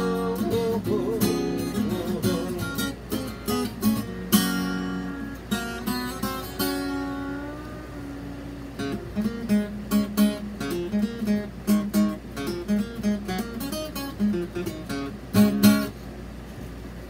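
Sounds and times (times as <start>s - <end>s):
acoustic guitar strumming: 0.0s - 16.1s.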